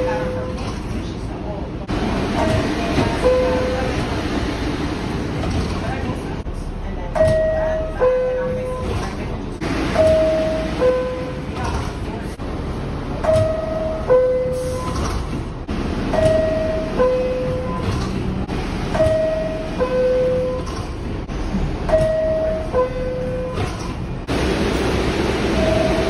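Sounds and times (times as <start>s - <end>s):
train and station rumble: 0.0s - 26.0s.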